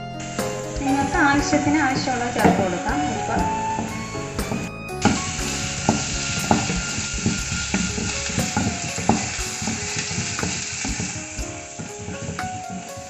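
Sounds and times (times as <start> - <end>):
vegetables sizzling in hot oil: 0.2 - 4.1, 5.0 - 13.0.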